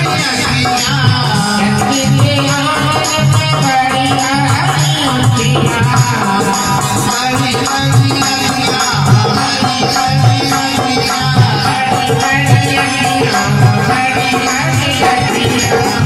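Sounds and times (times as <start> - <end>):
loud music with bass drum beat: 0.0 - 16.0
shaker-like rattling percussion: 0.0 - 16.0.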